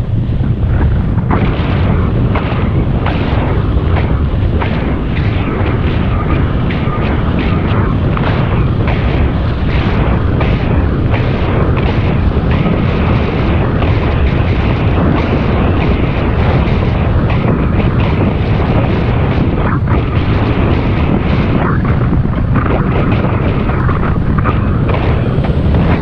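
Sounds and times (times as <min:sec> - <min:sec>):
bicycle tyre noise on pavement: 0:00.0 - 0:26.0
wind buffeting microphone: 0:00.0 - 0:26.0.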